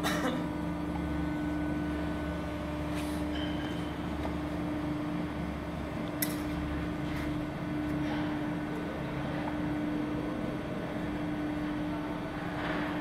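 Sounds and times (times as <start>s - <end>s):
hydraulic pump humming: 0.0s - 13.0s.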